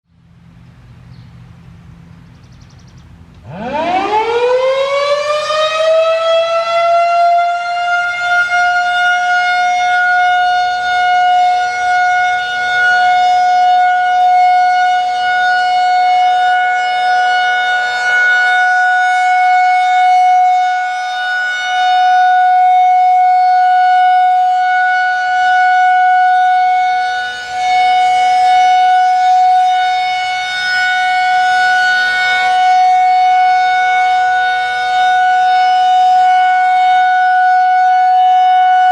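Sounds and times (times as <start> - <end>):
rotating warning siren: 2.6 - 38.9.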